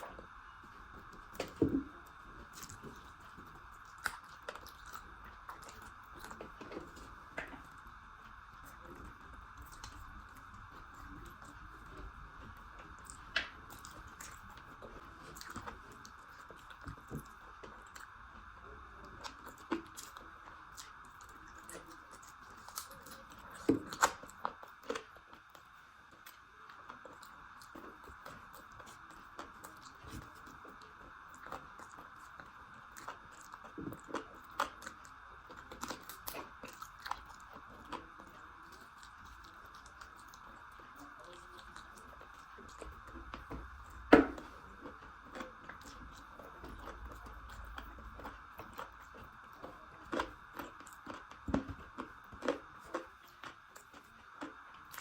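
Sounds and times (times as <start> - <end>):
chewing mouth sounds: 0.0 - 55.0
faint background hum: 0.0 - 55.0.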